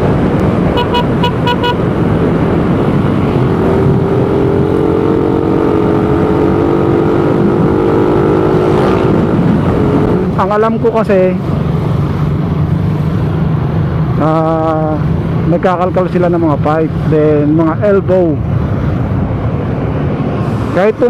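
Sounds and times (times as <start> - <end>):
wind noise: 0.0 - 15.5, 16.3 - 21.0
road rumble: 0.0 - 21.0.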